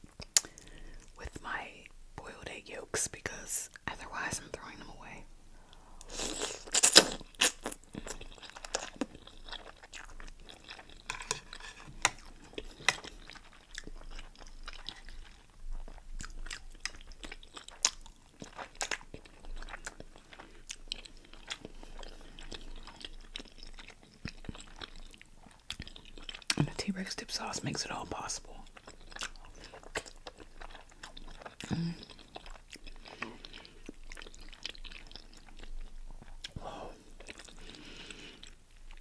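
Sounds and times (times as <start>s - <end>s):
person chewing food: 0.0s - 1.2s, 5.7s - 26.8s, 28.6s - 39.0s.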